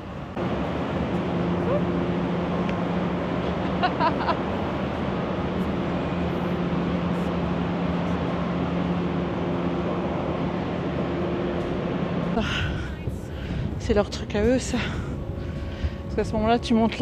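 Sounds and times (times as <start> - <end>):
ship engine hum: 0.0 - 17.0
ventilation fans rushing: 0.0 - 17.0.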